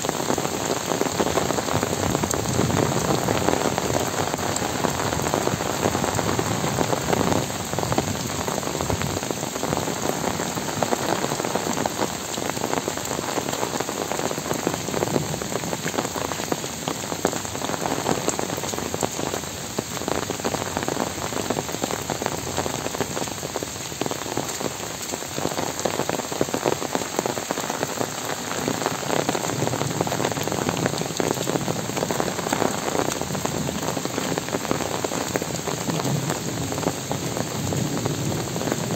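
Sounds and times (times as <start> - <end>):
heavy rain on trees and ground: 0.0 - 38.9.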